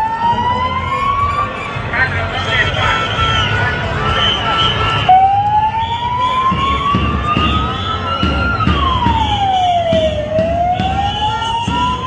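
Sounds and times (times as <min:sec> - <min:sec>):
siren wailing: 0:00.0 - 0:12.0
street march noise: 0:00.0 - 0:12.0.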